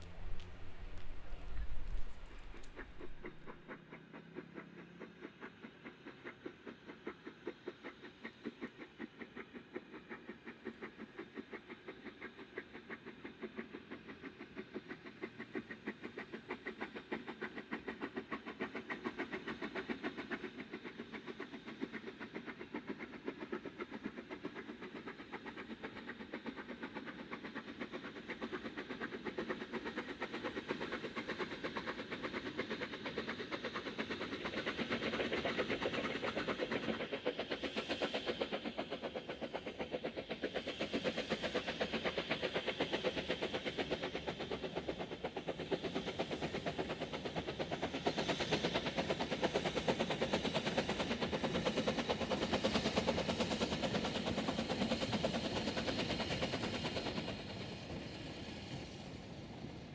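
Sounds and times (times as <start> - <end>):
steam locomotive exhaust beating: 0.0 - 59.9.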